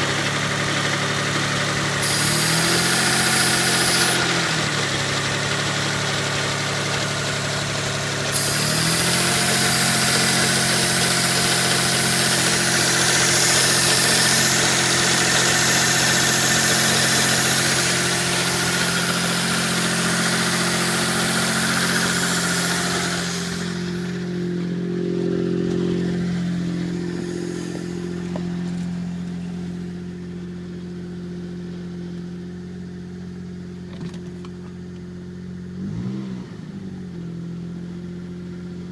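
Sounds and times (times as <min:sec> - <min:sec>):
car engine idling: 0:00.0 - 0:36.0, 0:36.6 - 0:38.9.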